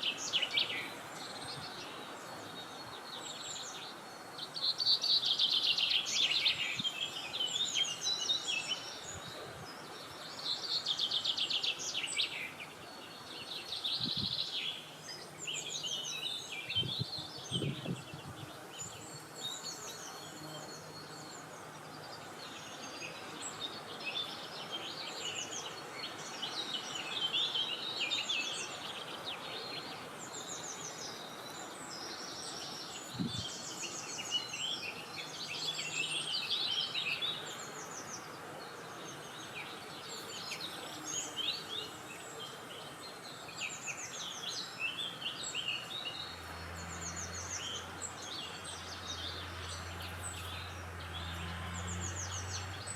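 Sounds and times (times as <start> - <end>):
soft outdoor background hiss: 0.0 - 52.9
songbirds singing: 0.0 - 52.9.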